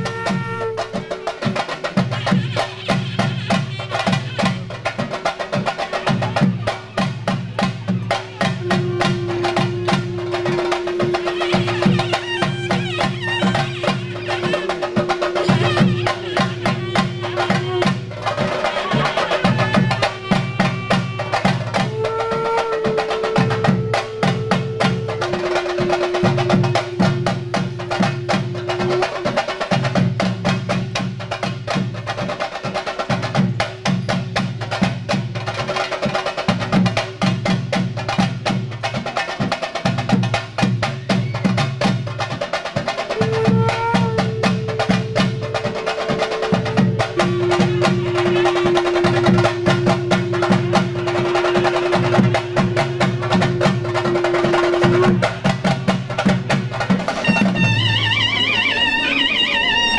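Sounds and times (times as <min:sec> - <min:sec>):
drums beaten with sticks: 0:00.0 - 0:59.9.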